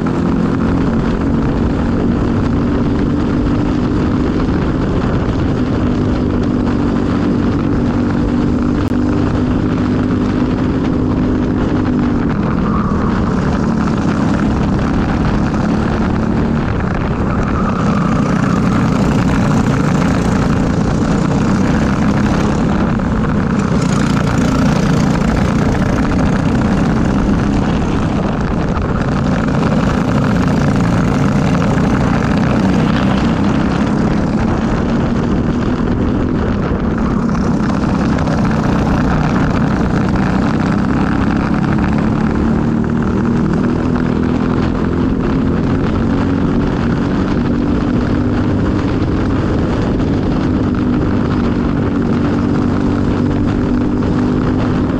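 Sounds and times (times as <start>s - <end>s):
kart engine running hard: 0.0s - 54.9s.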